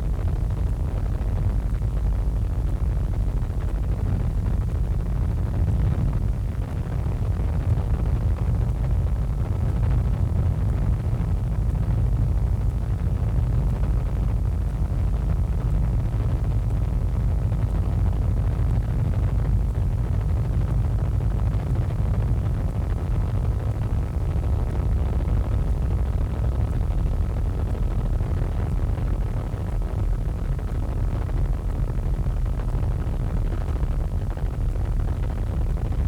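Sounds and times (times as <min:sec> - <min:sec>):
faint steady whine: 0:00.0 - 0:36.0.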